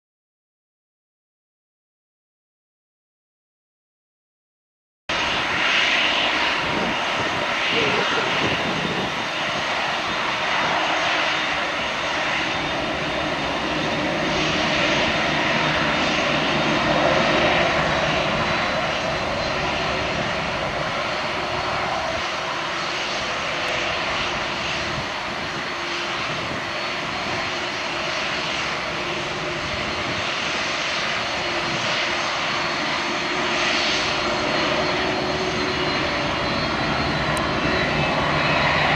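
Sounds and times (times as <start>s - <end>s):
faint high engine whine: 5.1s - 38.9s
jet engines roaring: 5.1s - 38.9s.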